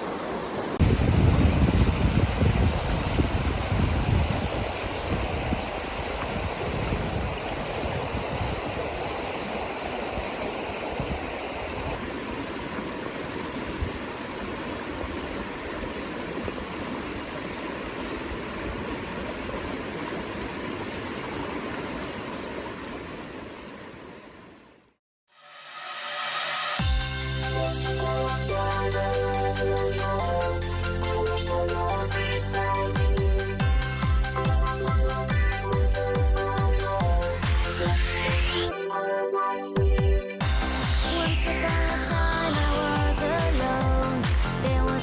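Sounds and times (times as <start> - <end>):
river water flowing: 0.0 - 24.9, 25.8 - 38.9, 40.4 - 45.0.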